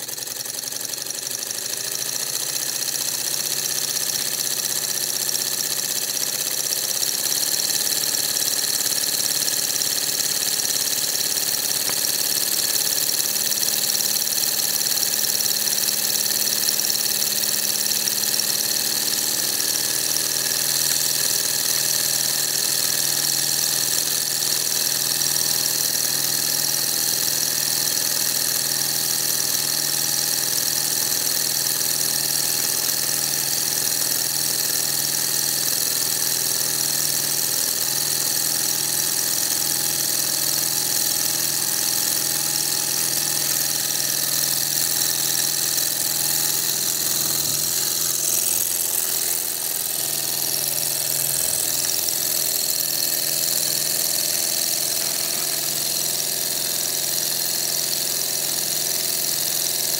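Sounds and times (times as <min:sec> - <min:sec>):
small engine mechanical hum: 0:00.0 - 0:59.9.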